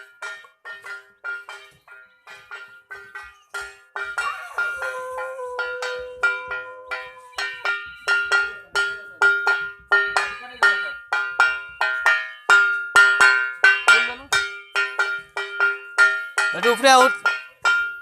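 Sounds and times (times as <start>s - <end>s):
metal hand bell ringing: 0.0s - 18.0s.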